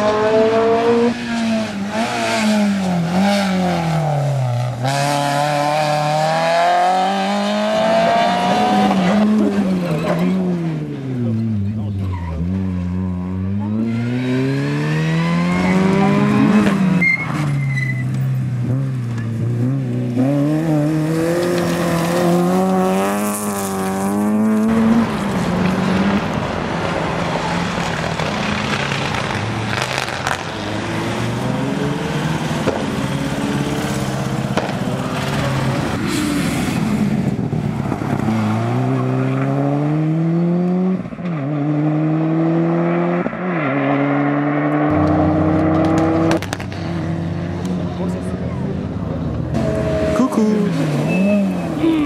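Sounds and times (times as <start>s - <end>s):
rally car engines at full throttle: 0.0s - 52.0s.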